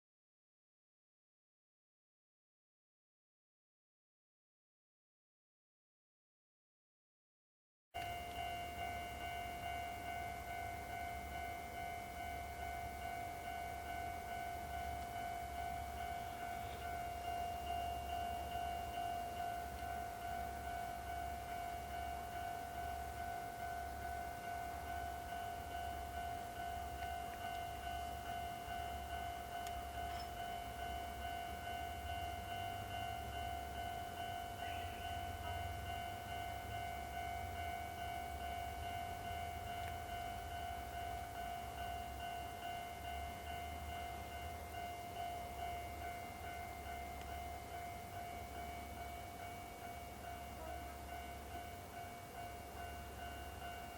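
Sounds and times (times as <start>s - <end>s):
level crossing warning bell ringing: 8.0s - 53.9s.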